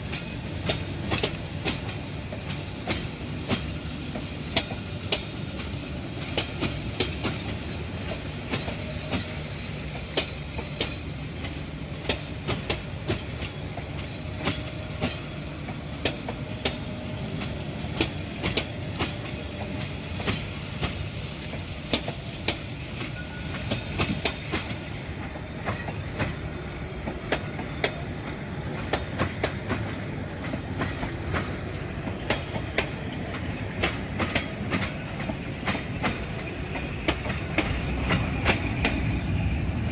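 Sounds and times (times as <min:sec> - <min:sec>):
train wheels rumbling on track: 0:00.0 - 0:39.9
wheels clacking over rail joints: 0:00.0 - 0:39.9.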